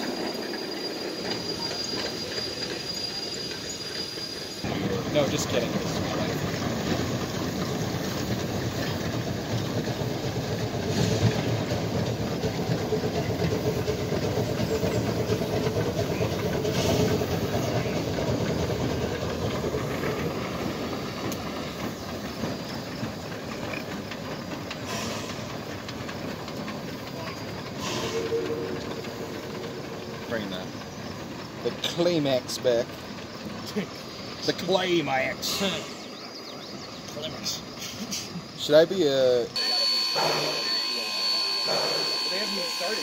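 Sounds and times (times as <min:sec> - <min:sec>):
steam hissing: 0:00.0 - 0:36.2, 0:37.4 - 0:43.0
train wheels on rails: 0:00.0 - 0:43.0.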